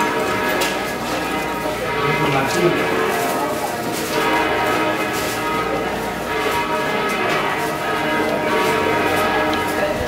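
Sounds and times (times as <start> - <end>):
church bells pealing: 0.0 - 10.0.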